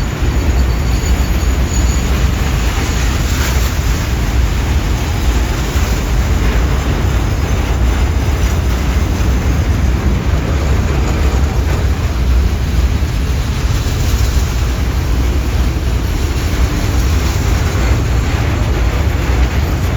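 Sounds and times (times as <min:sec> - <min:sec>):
freight train rumbling past: 0:00.0 - 0:19.9.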